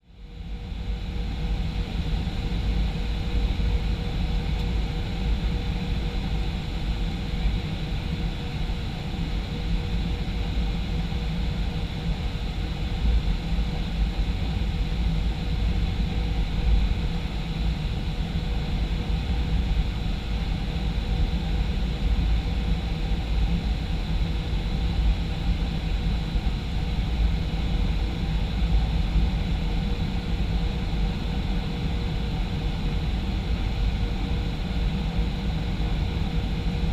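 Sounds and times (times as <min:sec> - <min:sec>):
airplane cabin jet engine drone: 0:00.1 - 0:36.9.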